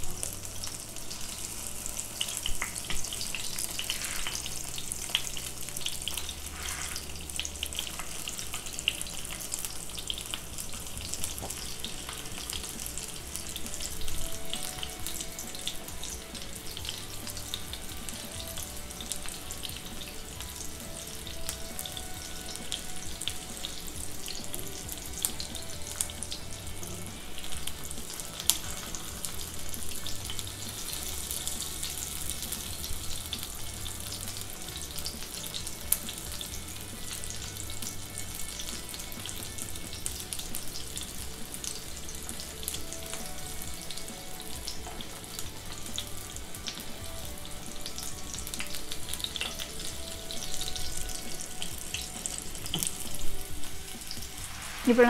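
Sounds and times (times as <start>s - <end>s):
kebabs sizzling in oil: 0.0s - 55.0s.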